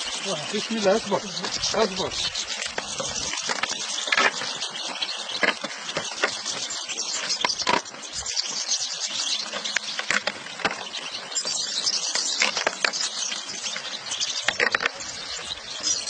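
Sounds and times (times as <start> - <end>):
goldfinches chirping and twittering: 0.0 - 16.0.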